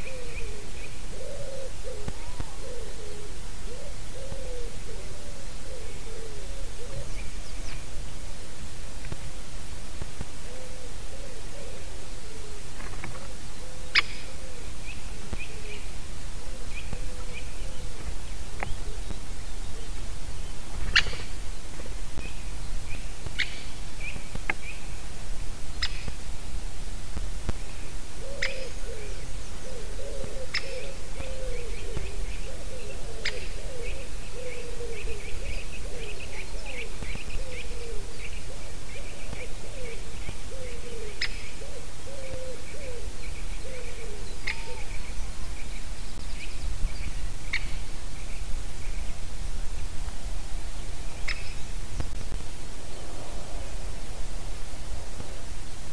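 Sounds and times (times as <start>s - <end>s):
woodpecker call notes: 0.0s - 8.3s, 10.0s - 25.1s, 25.7s - 26.2s, 27.5s - 49.3s, 51.1s - 51.8s
steady low hiss: 0.0s - 55.9s.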